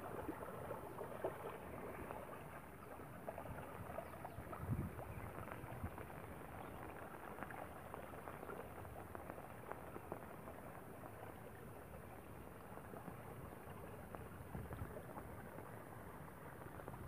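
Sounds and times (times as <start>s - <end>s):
muddy water running and splashing: 0.0s - 17.0s.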